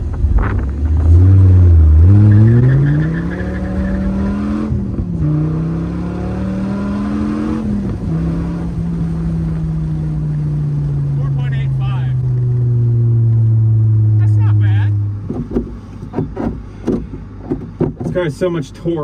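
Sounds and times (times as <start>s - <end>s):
car accelerating hard: 0.2s - 16.6s.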